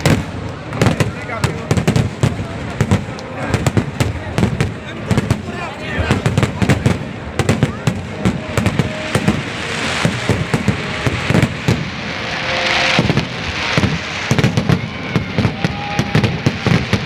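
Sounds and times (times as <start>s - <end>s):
fireworks bangs and crackles: 0.0s - 17.0s
hissing rush: 0.0s - 17.0s.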